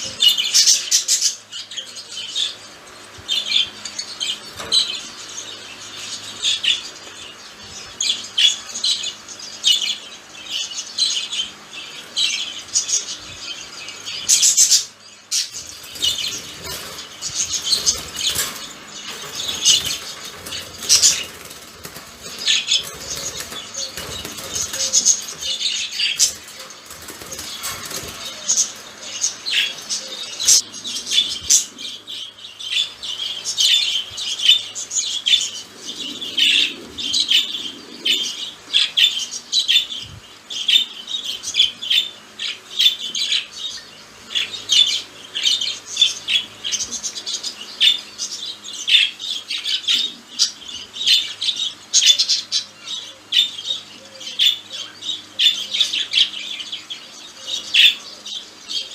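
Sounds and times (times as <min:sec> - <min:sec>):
budgies chirping and squawking: 0:00.0 - 0:58.9.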